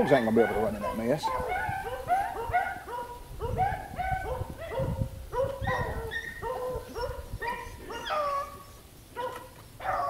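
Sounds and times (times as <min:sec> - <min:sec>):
dogs baying: 0:00.0 - 0:10.0.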